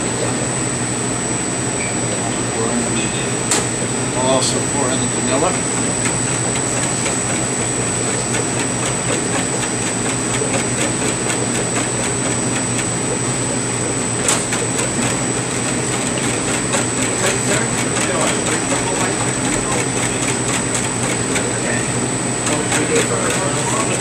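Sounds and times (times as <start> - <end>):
machinery hum: 0.0 - 24.0.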